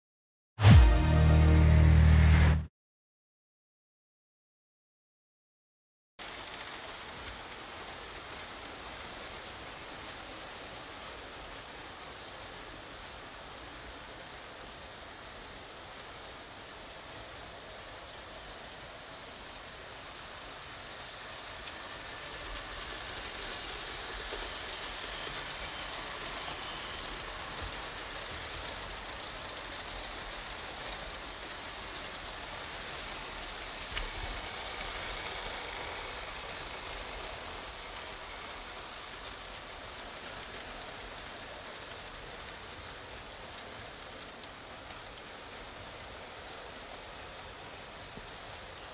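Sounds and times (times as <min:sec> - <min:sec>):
model train rattling on track: 0:06.2 - 0:48.9.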